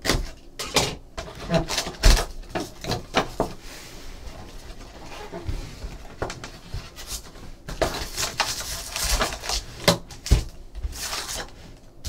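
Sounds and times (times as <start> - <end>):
foil packs rustling and crinkling: 0.2 - 12.0.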